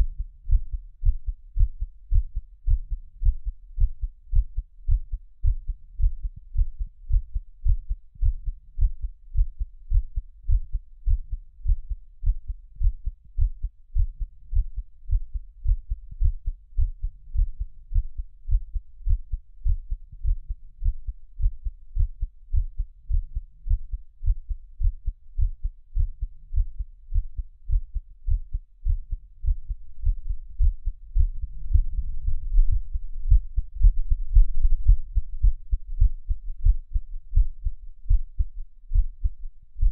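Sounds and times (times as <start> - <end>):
heartbeat: 0.0 - 39.9
low steady rumble: 0.0 - 39.9.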